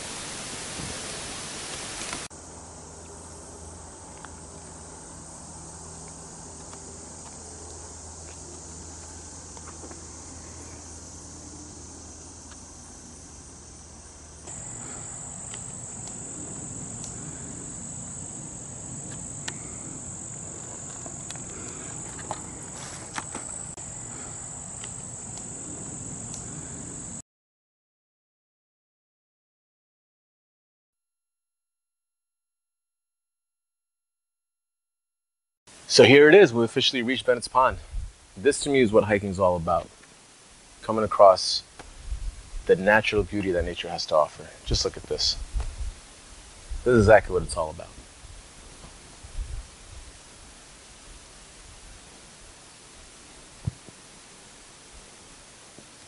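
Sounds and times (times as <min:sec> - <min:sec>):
insects chorus: 0:00.0 - 0:27.2, 0:35.7 - 0:56.0.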